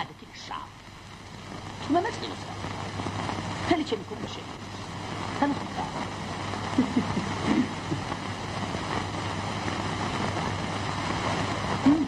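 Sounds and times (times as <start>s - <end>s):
film soundtrack hiss and hum: 0.0s - 12.0s.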